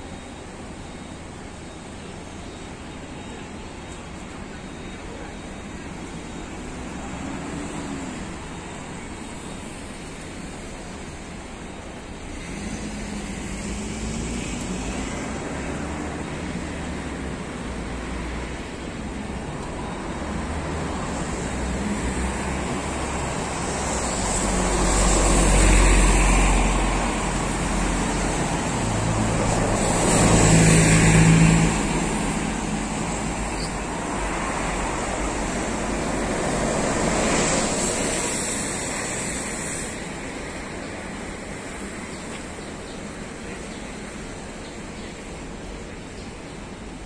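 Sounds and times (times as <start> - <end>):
bus engine: 0.0 - 47.0
traffic road noise rumble: 0.0 - 47.0.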